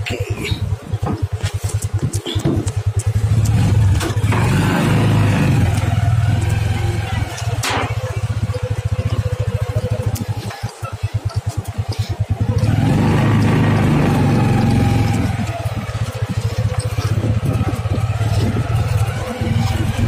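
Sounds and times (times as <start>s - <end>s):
motorcycle engine putter: 0.6s - 20.0s.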